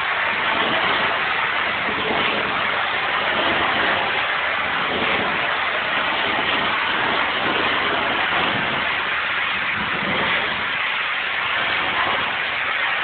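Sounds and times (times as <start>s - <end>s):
hiss of water jet: 0.0s - 13.0s.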